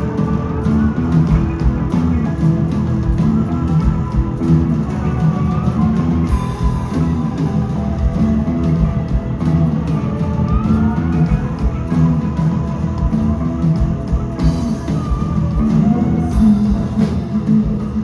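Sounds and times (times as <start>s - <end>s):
high sliding guitar tone: 0.0s - 18.0s
rock band playing live: 0.0s - 18.0s.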